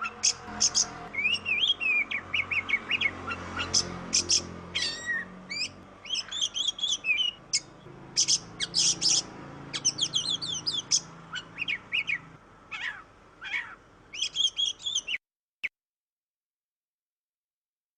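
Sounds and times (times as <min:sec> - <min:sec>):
bird singing whistles and chatter: 0:00.0 - 0:12.2, 0:12.8 - 0:15.2.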